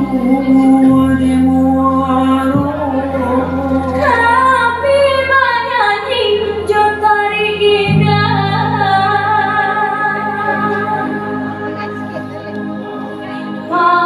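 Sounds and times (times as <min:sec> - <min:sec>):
woman singing: 0:00.0 - 0:12.4, 0:13.2 - 0:14.0
low held chords: 0:00.0 - 0:14.0.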